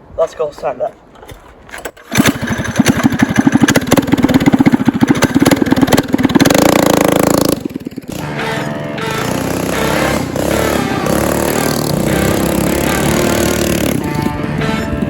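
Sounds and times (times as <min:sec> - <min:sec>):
small engine revving: 0:02.1 - 0:15.0.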